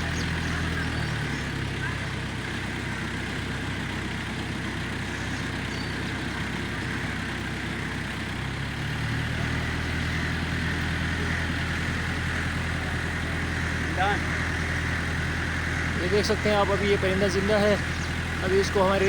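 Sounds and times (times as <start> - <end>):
large vehicle engine idling: 0.0 - 19.0.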